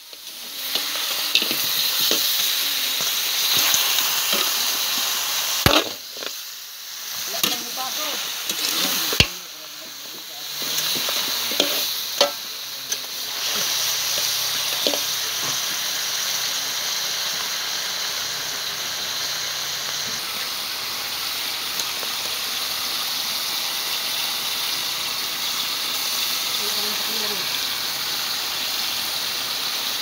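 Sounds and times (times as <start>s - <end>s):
meat sizzling in a wok: 0.0s - 30.0s.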